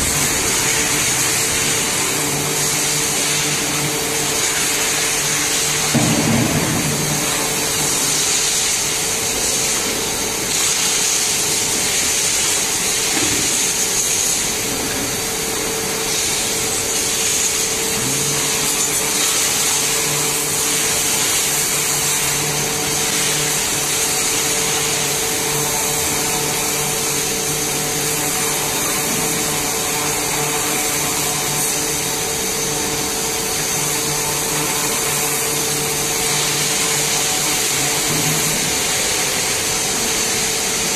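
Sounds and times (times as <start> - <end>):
high-pressure jet hissing: 0.0 - 40.9
machine hum: 0.0 - 40.9.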